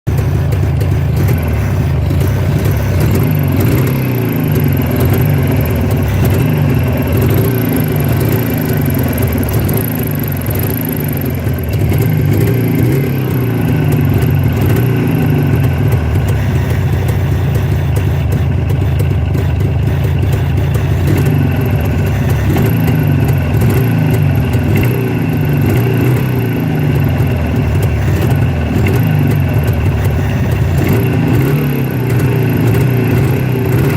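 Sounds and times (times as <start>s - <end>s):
two-stroke motorcycle engine: 0.0s - 33.9s.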